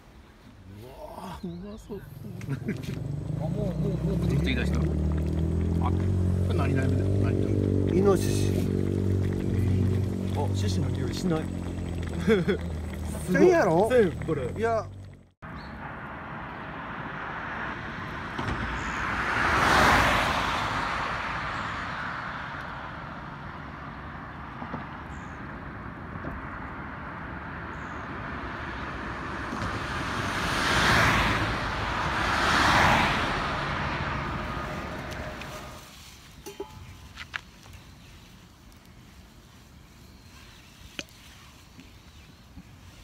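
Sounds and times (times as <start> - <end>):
road traffic: 0.0 - 43.0
vehicles passing by: 0.0 - 43.0.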